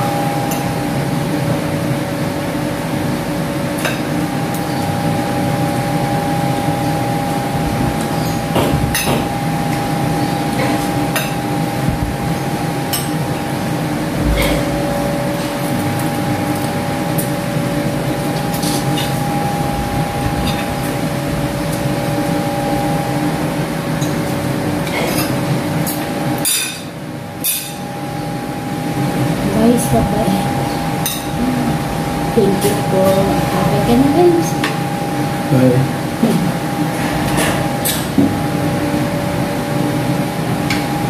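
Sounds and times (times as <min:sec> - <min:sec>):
steady mechanical hum: 0:00.0 - 0:41.0.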